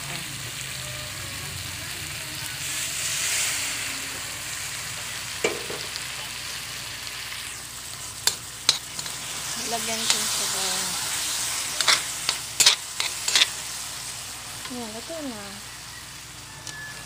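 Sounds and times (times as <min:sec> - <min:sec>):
stir-fry sizzling in a wok: 0:00.0 - 0:17.0.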